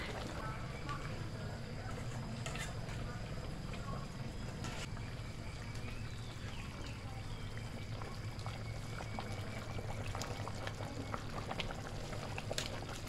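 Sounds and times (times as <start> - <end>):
soup sloshing and bubbling: 0.0 - 13.0.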